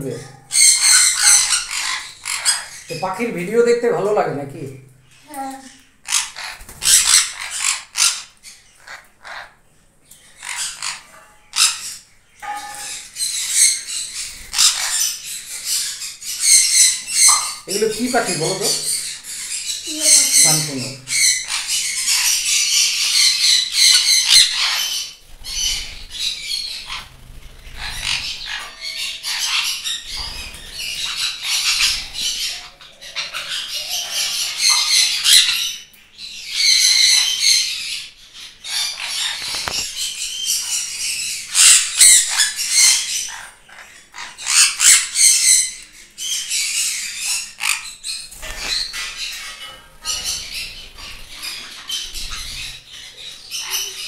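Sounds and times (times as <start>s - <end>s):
parrots squawking: 0.0s - 54.0s.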